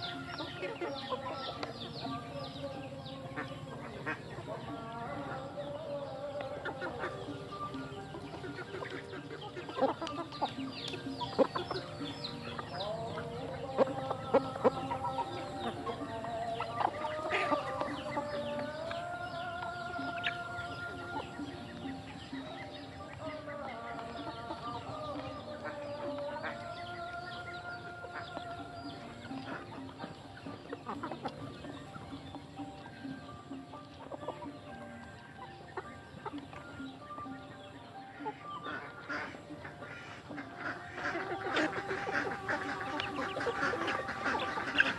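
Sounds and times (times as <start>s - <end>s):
long drawn-out calls: 0.0s - 44.9s
young chickens clucking: 0.0s - 44.9s.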